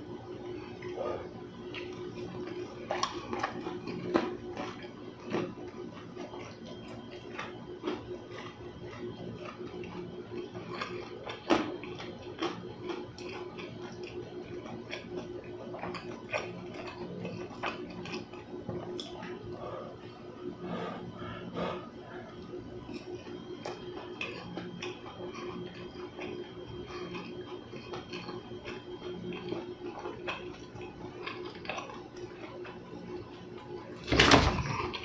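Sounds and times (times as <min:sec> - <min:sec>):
chewing with wet mouth clicks: 0:01.6 - 0:19.5, 0:21.8 - 0:33.7.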